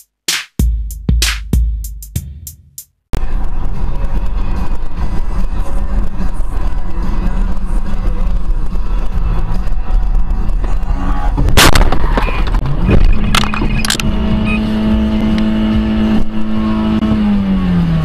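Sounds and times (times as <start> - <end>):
engine and road noise: 3.1 - 18.0.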